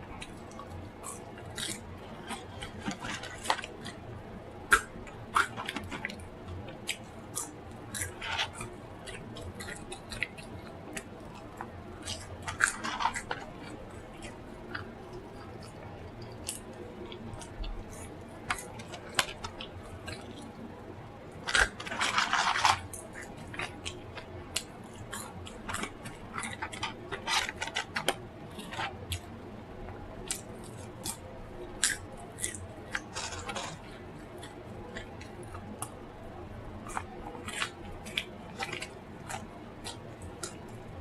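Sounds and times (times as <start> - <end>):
wet chewing and mouth clicks: 0.2 - 41.0.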